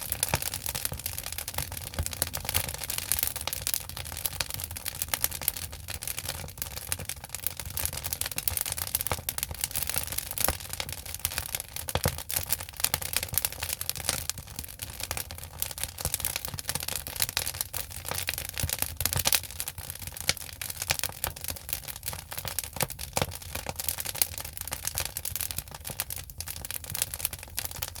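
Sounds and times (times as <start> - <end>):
firewood crackling and popping: 0.0 - 28.0
low steady rush of fire: 0.0 - 28.0.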